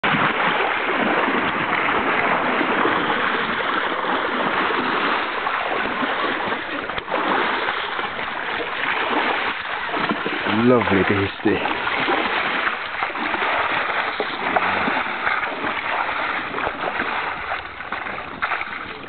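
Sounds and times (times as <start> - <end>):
river water rushing and splashing: 0.0 - 19.0.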